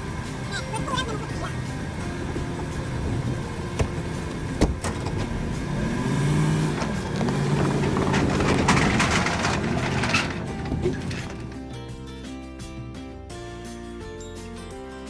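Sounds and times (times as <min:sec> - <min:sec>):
engine running: 0:00.0 - 0:13.2.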